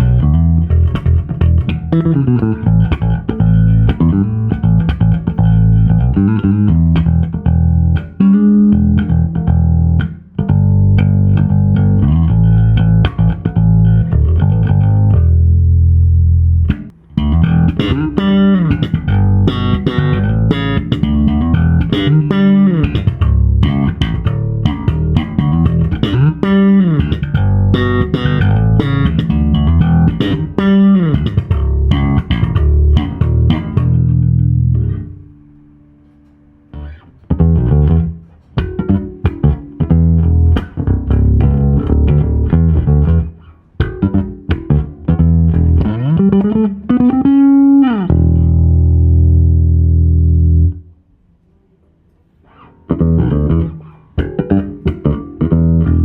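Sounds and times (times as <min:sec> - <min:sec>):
electric bass guitar plucked notes: 0:00.0 - 0:51.3, 0:52.5 - 0:56.0.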